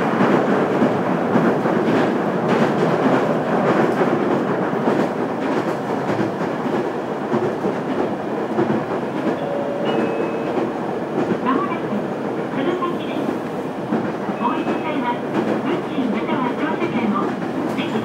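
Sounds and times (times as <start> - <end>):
rail joint clacks: 0.0 - 18.0
train wheels rumbling on rail: 0.0 - 18.0.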